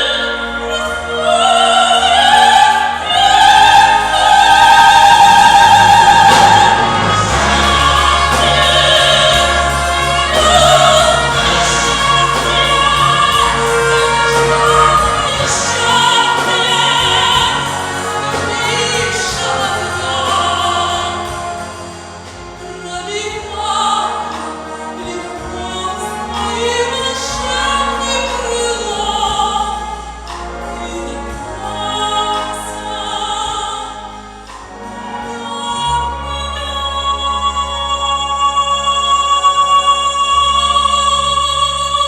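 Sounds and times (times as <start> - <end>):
orchestral accompaniment: 0.0 - 42.0
woman singing ballad: 0.0 - 42.0.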